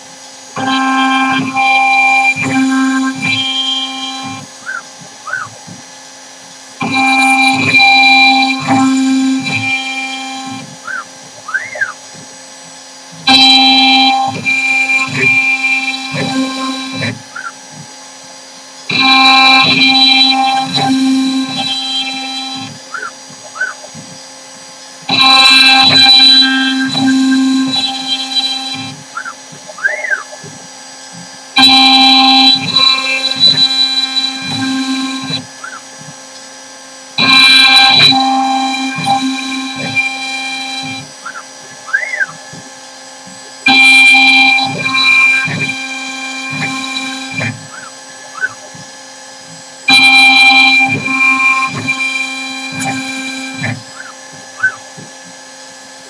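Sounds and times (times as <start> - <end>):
motor whine: 0.0 - 56.0
router cutting wood: 0.0 - 56.0.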